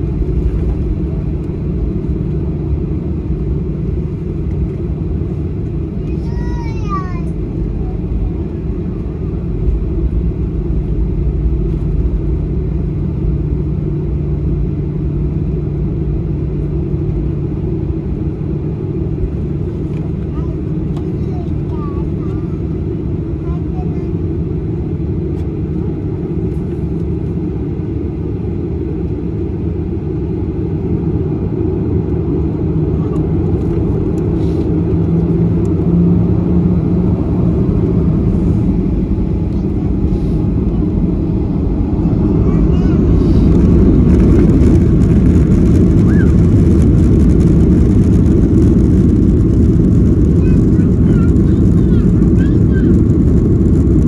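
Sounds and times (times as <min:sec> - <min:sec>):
airflow over airframe: 0:00.0 - 0:54.0
airliner cabin engine rumble: 0:00.0 - 0:54.0.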